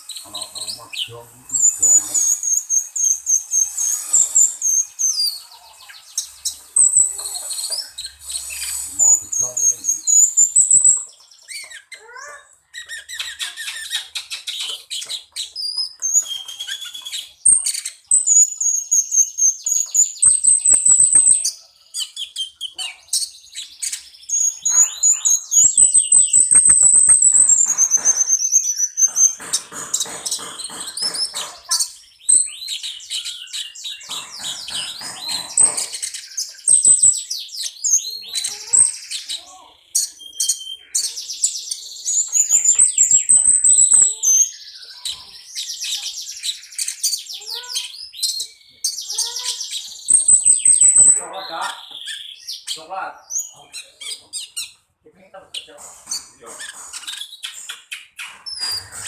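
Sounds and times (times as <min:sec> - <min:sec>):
bird singing shrill song: 0:00.0 - 0:54.8, 0:55.4 - 0:59.0.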